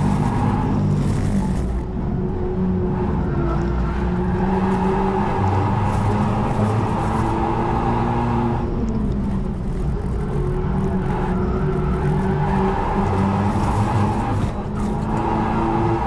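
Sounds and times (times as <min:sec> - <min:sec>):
car engine revving at full throttle: 0:00.0 - 0:16.0.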